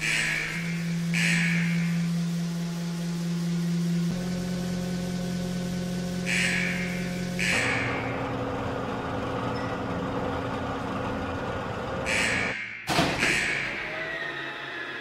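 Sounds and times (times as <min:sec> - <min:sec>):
noisy rumble with low hum: 0:00.0 - 0:14.2.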